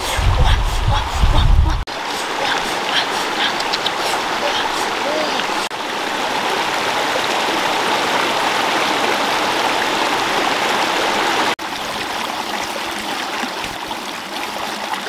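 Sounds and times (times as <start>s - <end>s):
stream rushing over rocks: 1.9s - 15.0s.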